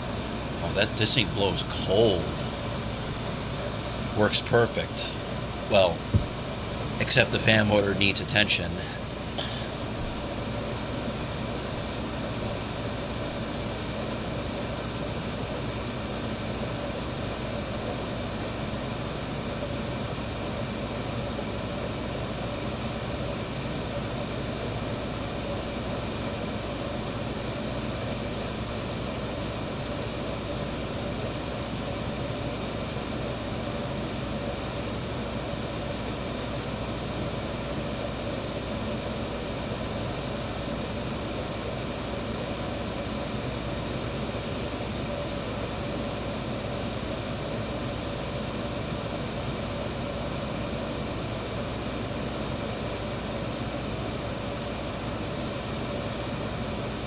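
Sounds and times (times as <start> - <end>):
air conditioner fan blowing: 0.0 - 57.0.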